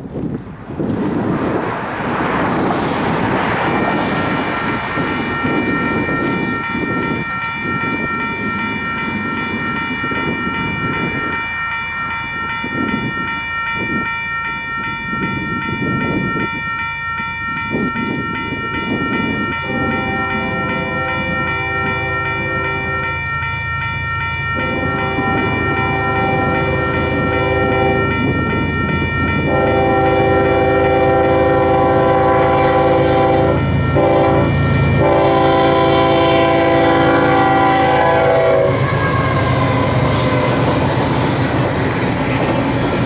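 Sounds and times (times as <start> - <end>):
wind rumbling on microphone: 0.0 - 11.5, 12.1 - 43.0
railroad crossing bell ringing: 0.8 - 43.0.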